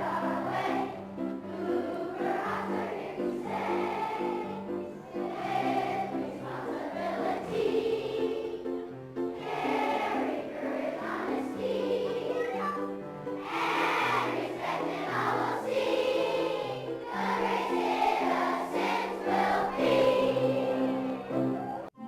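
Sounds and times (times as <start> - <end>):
choir singing: 0.0 - 12.6, 13.3 - 22.0
instrumental accompaniment: 0.0 - 22.0.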